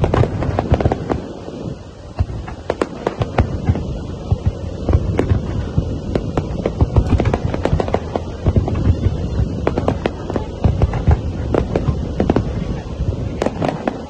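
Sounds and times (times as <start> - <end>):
fireworks bangs and crackles: 0.0 - 14.0
low rumble: 0.0 - 14.0.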